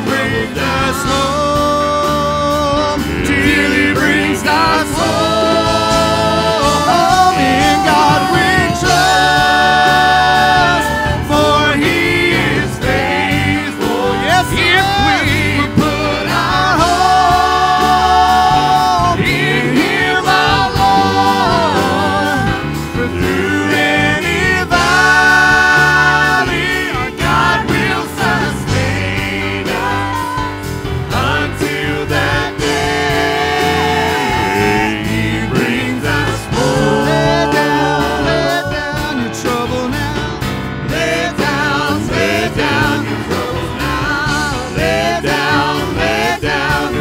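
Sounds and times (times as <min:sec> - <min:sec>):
keyboard: 0:00.0 - 0:47.0
percussion: 0:00.0 - 0:47.0
singers in harmony: 0:00.0 - 0:47.0.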